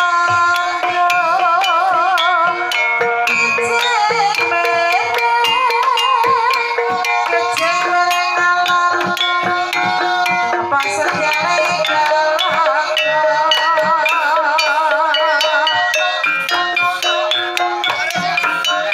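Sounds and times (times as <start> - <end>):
drum and percussion strokes: 0.0 - 18.9
metallophone tones: 0.0 - 18.9
woman singing with vibrato: 0.0 - 18.9.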